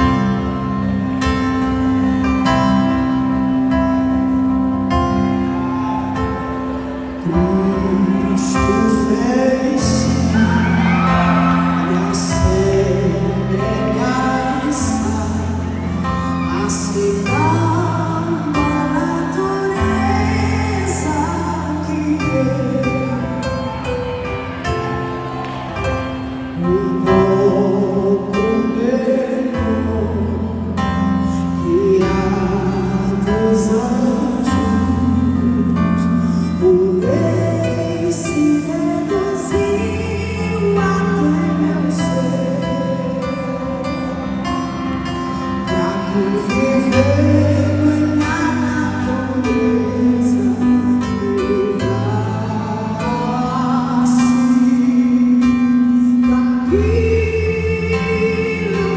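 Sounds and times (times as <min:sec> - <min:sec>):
guitar: 0:00.0 - 0:58.9
person singing: 0:00.0 - 0:58.9.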